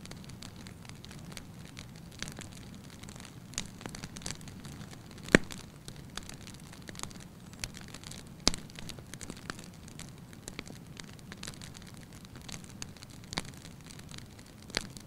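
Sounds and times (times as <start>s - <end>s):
loud fire pops: 0.0s - 15.0s
wood fire crackling: 0.0s - 15.0s.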